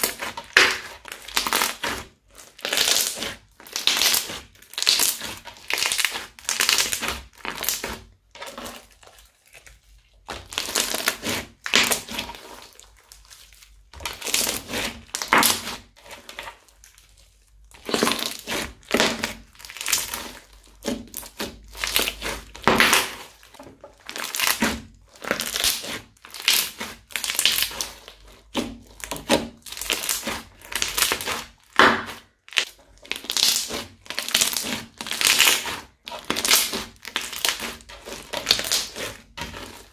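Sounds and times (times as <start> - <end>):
crunchy slime crackling and squishing: 0.0 - 39.9.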